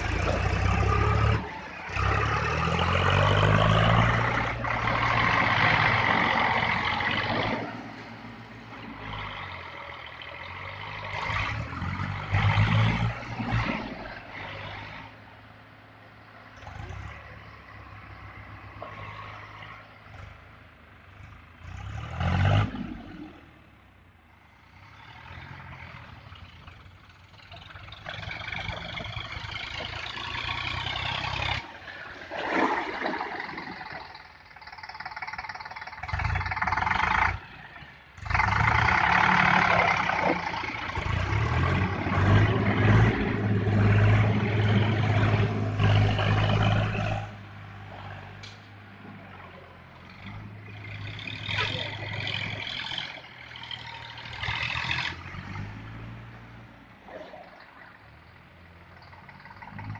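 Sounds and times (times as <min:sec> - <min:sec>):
tractor engines revving: 0:00.0 - 0:59.9.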